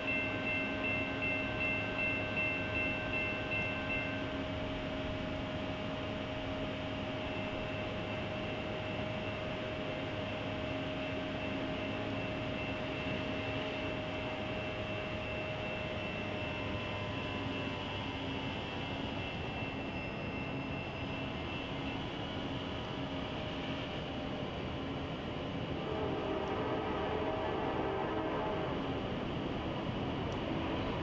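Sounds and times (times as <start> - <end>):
faint steady tones: 0.0 - 31.0
train rumble and hiss: 0.0 - 31.0.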